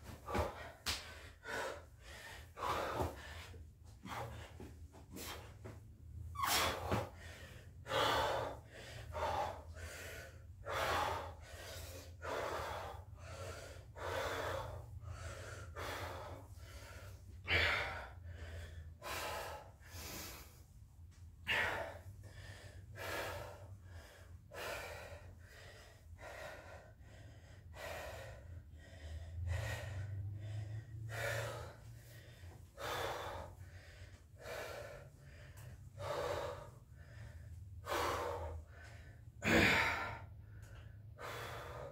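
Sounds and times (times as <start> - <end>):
man gasping breaths: 0.0 - 41.9
steady low hum: 7.1 - 41.9.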